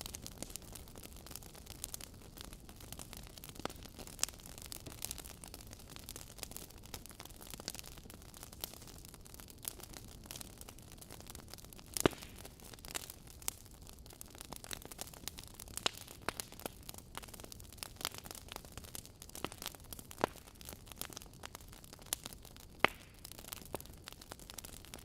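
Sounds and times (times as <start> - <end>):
burning logs popping: 0.0 - 25.0
wood fire crackling: 0.0 - 25.0.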